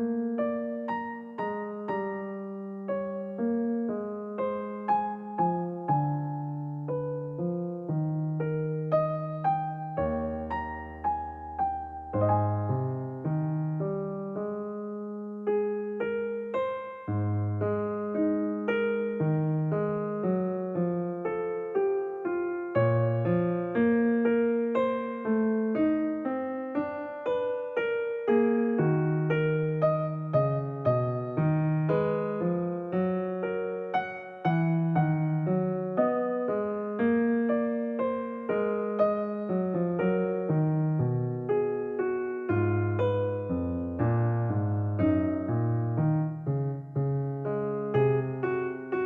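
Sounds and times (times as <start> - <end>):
gentle keyboard music: 0.0 - 49.0
slow piano melody: 0.0 - 49.0.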